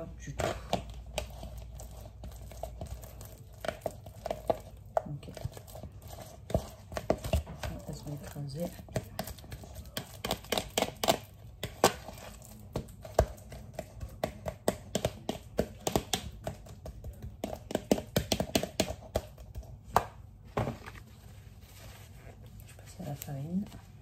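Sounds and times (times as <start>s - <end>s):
utensil tapping a mixing bowl: 0.3s - 20.8s.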